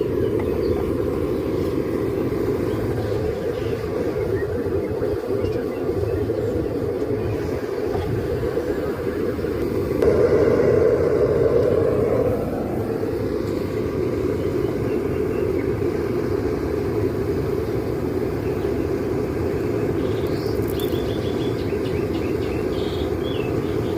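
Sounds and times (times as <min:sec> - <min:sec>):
low rumbling noise: 0:00.0 - 0:23.9.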